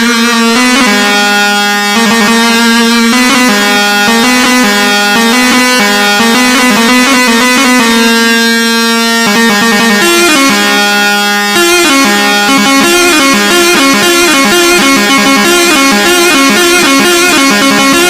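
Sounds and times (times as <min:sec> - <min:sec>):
electronic keyboard melody: 0:00.0 - 0:18.0
steady instrumental accompaniment: 0:00.0 - 0:18.0.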